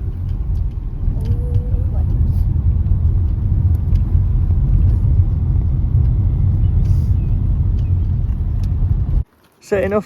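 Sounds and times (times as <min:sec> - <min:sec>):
car road and engine rumble: 0:00.0 - 0:09.9.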